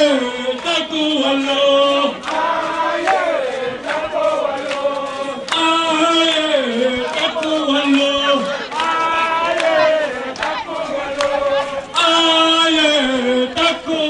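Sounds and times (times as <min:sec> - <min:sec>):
voices chanting: 0:00.0 - 0:14.0.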